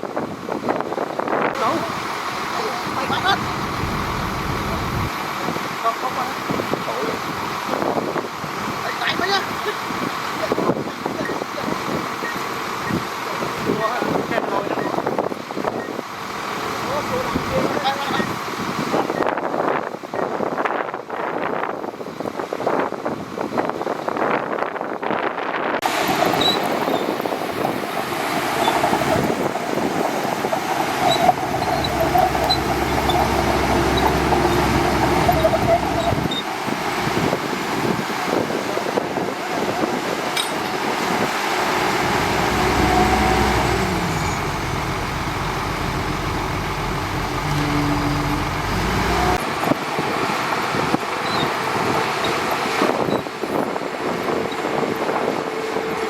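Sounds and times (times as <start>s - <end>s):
bulldozer diesel engine running: 1.6s - 8.8s, 9.5s - 19.3s, 25.8s - 56.0s.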